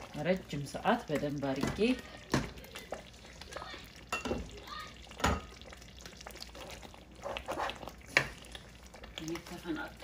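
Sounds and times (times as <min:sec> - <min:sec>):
thick sauce bubbling with plops: 0:00.0 - 0:10.0
wooden spoon stirring: 0:00.0 - 0:10.0.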